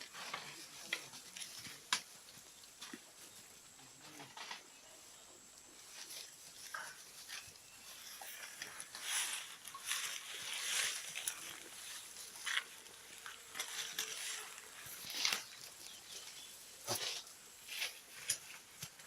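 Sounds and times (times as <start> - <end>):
goats rustling and shuffling: 0.0 - 19.0.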